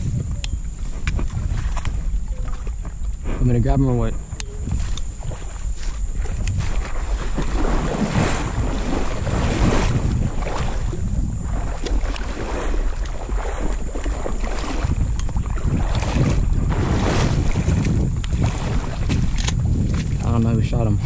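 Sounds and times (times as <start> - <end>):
wading through shallow water: 0.0 - 21.0
wind buffeting microphone: 0.0 - 21.0.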